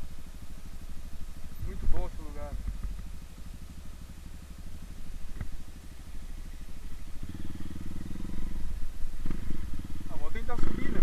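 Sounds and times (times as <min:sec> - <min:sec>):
dirt bike engine revving: 0:01.4 - 0:11.0.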